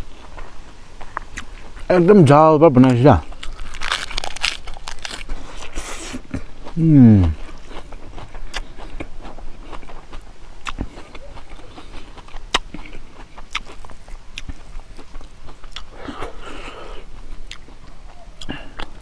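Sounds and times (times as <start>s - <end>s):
man chewing and lip smacking: 0.3s - 1.9s, 3.2s - 19.0s.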